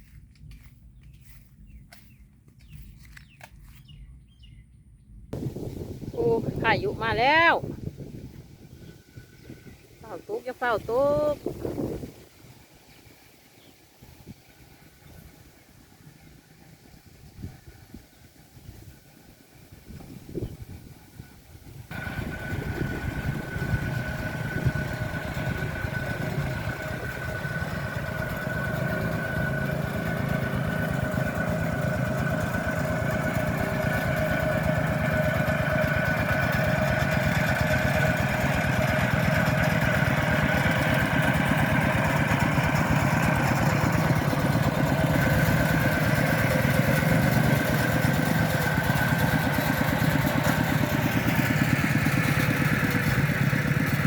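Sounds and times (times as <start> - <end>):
small engine whining and rumbling: 0.0 - 54.0.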